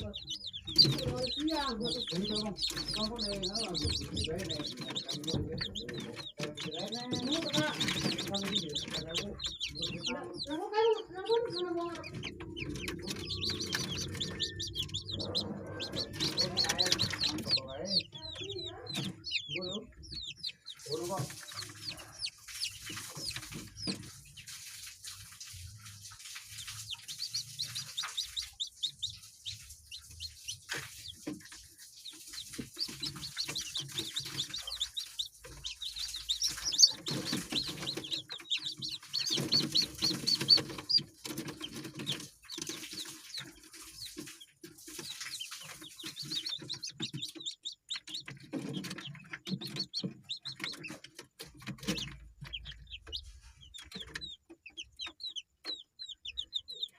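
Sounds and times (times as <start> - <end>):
high peeping calls: 0.0 - 25.3, 26.1 - 56.9
chickens clucking: 0.0 - 56.9.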